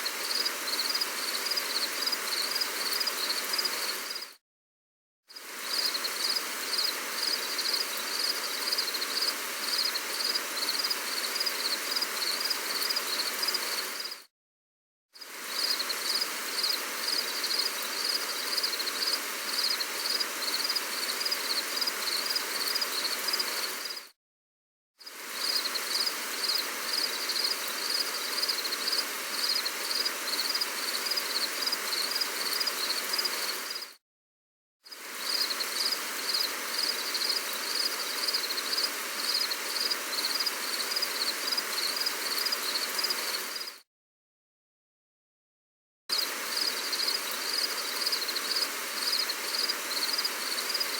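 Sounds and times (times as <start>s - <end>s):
gentle rain hissing: 0.0s - 4.4s, 5.3s - 14.3s, 15.2s - 24.1s, 25.0s - 34.0s, 34.9s - 43.8s, 46.1s - 50.9s.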